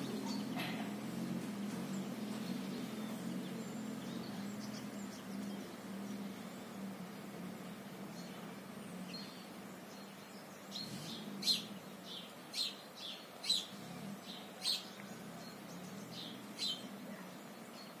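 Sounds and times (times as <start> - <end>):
faint low hum: 0.0 - 18.0
small birds chirping: 0.0 - 18.0.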